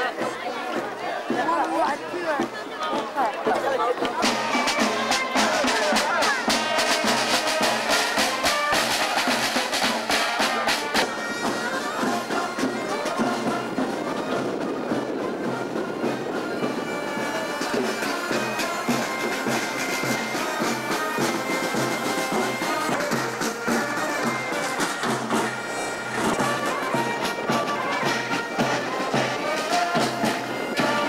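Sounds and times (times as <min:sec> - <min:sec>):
fast marching drum beat: 0:00.0 - 0:31.0
held wind instrument notes: 0:00.0 - 0:31.0.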